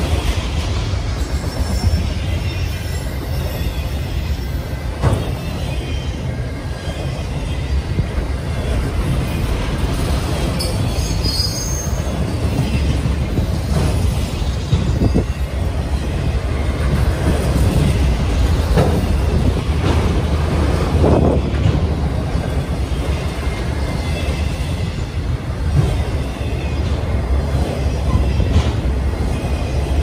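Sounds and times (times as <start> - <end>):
train cars clanking: 0.0 - 30.0
train wheels rumbling on rail: 0.0 - 30.0.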